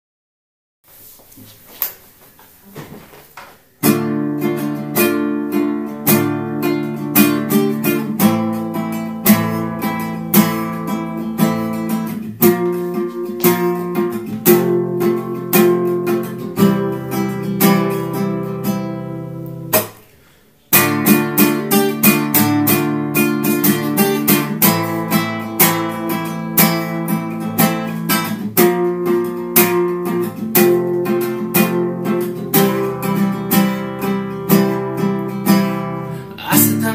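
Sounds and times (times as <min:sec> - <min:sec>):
acoustic guitar strummed chords: 0:03.8 - 0:36.9.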